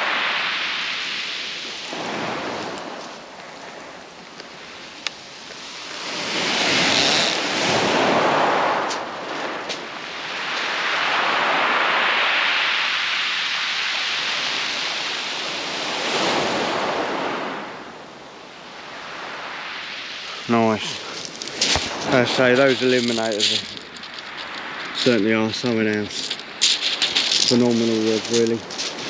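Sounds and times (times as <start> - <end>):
waves washing over shingle: 0.0 - 29.0.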